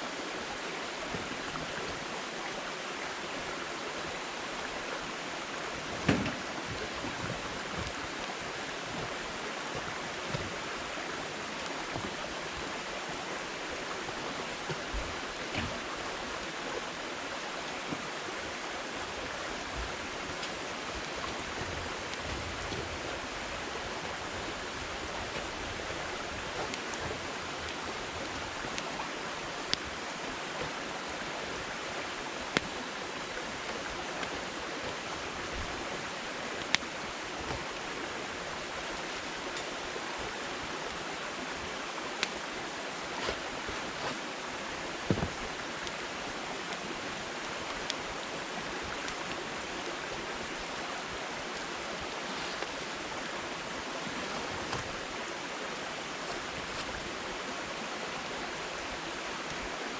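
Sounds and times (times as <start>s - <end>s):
campfire hissing: 0.1s - 59.9s.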